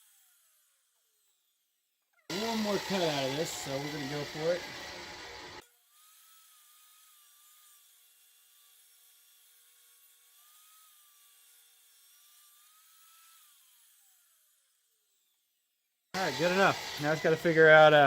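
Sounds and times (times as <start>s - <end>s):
table saw motor whining: 0.0s - 1.6s, 2.3s - 15.4s, 16.2s - 18.0s.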